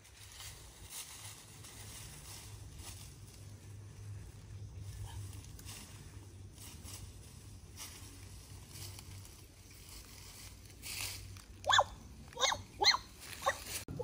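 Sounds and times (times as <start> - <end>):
rustling in dry leaves: 0.0 - 14.0.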